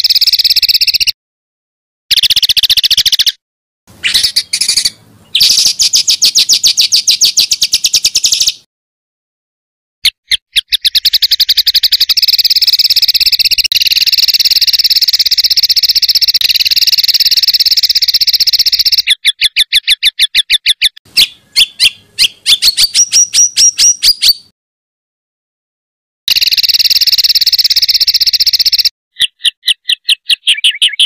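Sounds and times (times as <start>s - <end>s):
songbird singing rapid notes: 0.0s - 1.2s, 2.1s - 8.7s, 10.0s - 24.5s, 26.3s - 31.0s.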